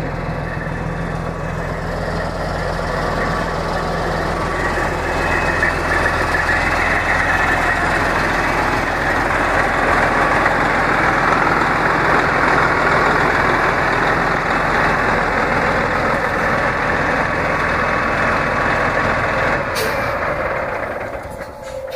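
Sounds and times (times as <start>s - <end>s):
diesel truck engine idling: 0.0s - 21.9s.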